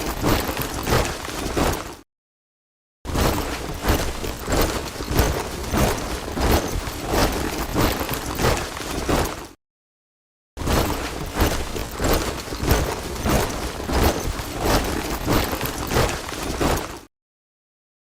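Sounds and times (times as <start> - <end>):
soldiers marching in boots: 0.0 - 2.0, 3.2 - 9.6, 10.7 - 17.1.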